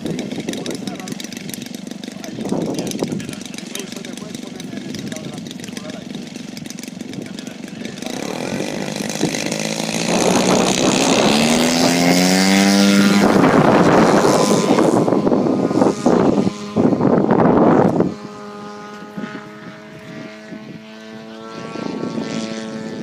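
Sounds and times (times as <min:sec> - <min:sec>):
model airplane engine and propeller: 0:00.0 - 0:23.0.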